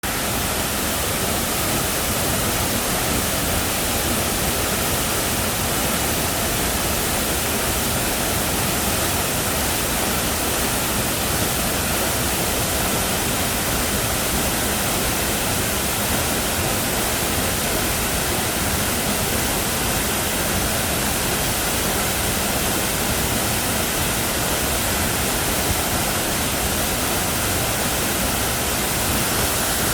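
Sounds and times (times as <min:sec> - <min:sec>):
waterfall pouring: 0:00.0 - 0:29.9.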